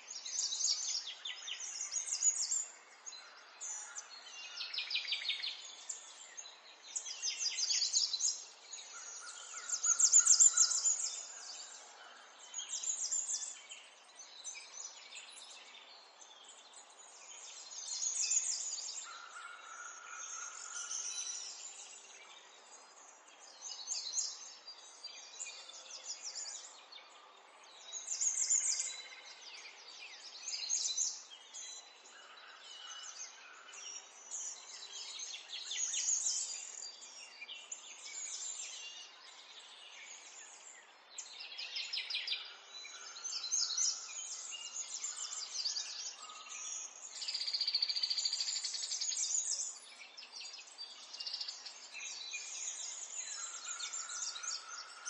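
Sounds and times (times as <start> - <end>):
birds chirping and trilling: 0.1 - 55.0.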